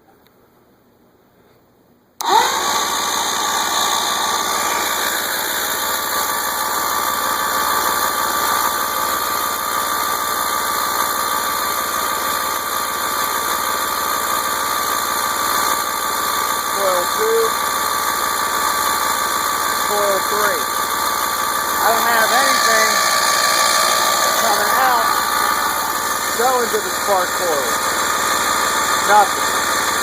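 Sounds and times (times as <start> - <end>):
electric starter cranking outboard engine: 2.2 - 30.0.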